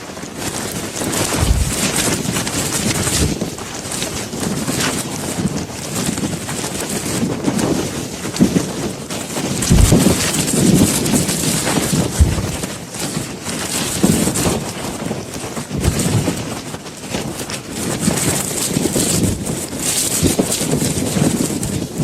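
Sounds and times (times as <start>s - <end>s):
wind gusting on microphone: 0.0s - 22.0s.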